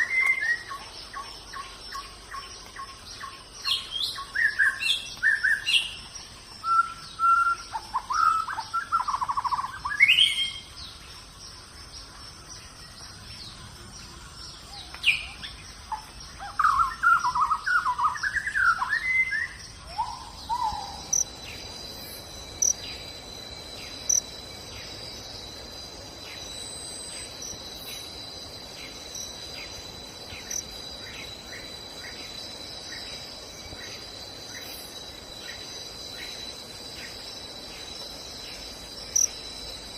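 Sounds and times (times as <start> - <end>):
high-pitched insect drone: 0.0 - 39.9
songbirds chirping and singing: 0.0 - 39.9.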